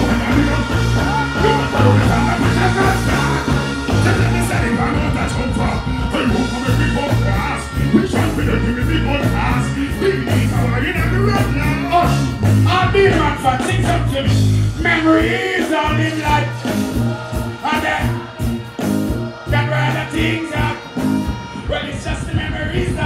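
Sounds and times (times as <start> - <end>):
man singing into a microphone: 0.0 - 16.7, 19.4 - 23.0
heavy bass line: 0.0 - 23.0
live band music: 0.0 - 23.0.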